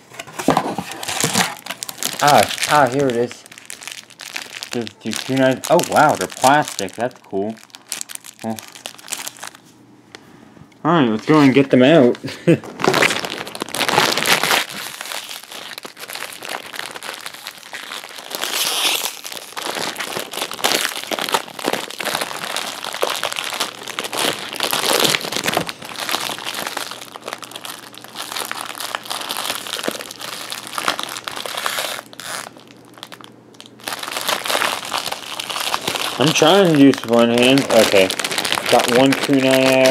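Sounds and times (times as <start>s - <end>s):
plastic bags crinkling: 0.2s - 9.6s, 12.6s - 39.9s.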